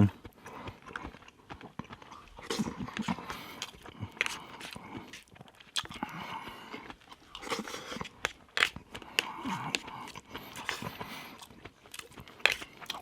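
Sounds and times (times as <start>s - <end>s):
close chewing: 0.0s - 13.0s.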